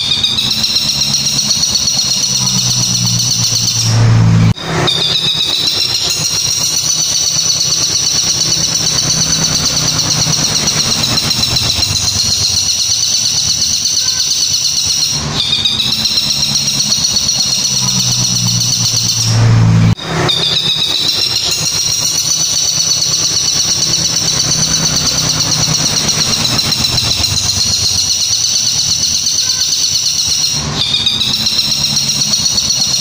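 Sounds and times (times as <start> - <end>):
low hum: 0.0 - 28.2
bird giving shrill fluttering call: 0.0 - 33.0.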